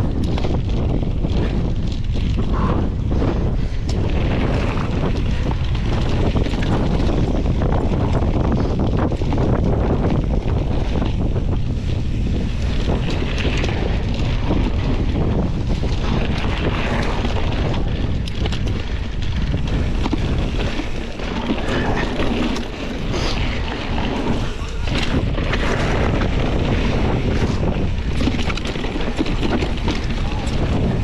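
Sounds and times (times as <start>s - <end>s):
bike knocks and rattles: 0.0s - 31.0s
tyres rumbling on gravel: 0.0s - 31.0s
wind buffeting microphone: 0.0s - 31.0s.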